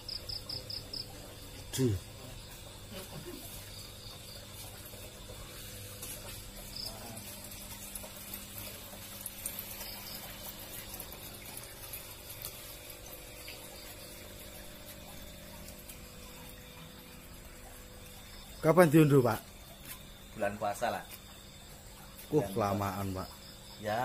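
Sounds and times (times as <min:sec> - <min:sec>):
faint steady hum: 0:00.0 - 0:24.0
water running: 0:00.0 - 0:24.0.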